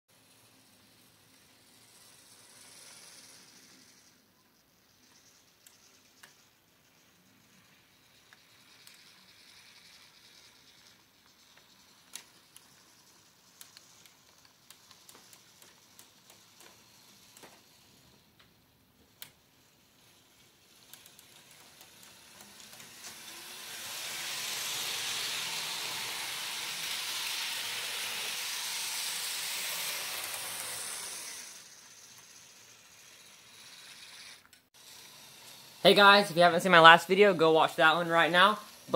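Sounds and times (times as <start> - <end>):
model train whirring on track: 0.1 - 38.9.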